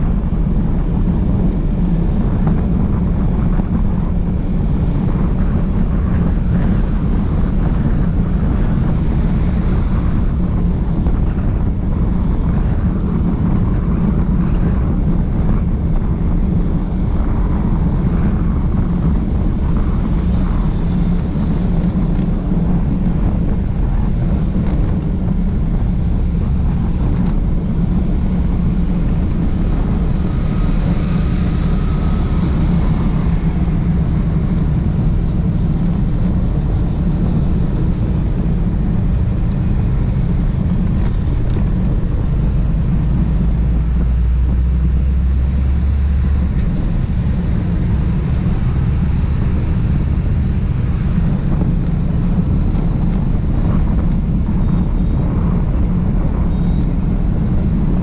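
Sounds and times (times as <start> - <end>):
lorry passing low rumble: 0.0 - 58.0
motorbike road rumble: 0.0 - 58.0
wind on microphone: 0.0 - 58.0.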